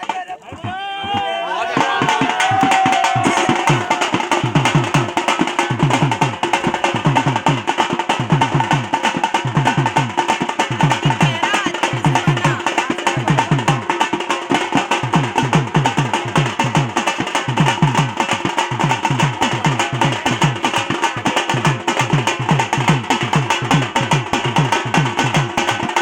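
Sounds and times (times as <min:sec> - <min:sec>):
hand drum beating fast: 0:00.0 - 0:26.0.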